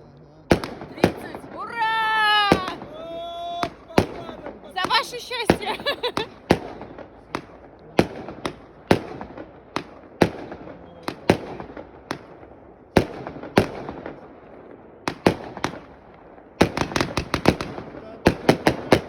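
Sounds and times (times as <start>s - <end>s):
fireworks bangs with echo: 0.5s - 19.0s.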